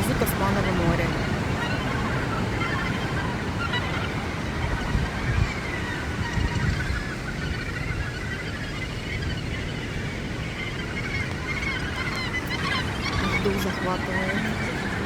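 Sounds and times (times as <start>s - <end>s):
gannets calling harshly: 0.0s - 15.0s.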